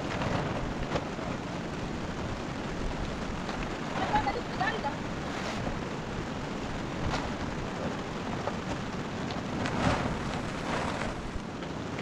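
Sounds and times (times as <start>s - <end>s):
plastic sheet rustling: 0.0s - 11.6s
steady hiss: 0.0s - 12.0s.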